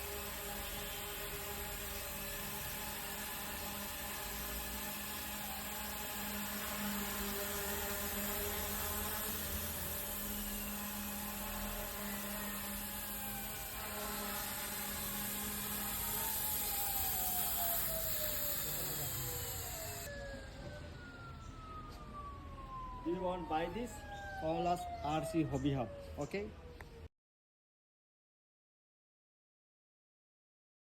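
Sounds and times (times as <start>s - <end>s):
rc helicopter motor whine: 0.0s - 27.0s.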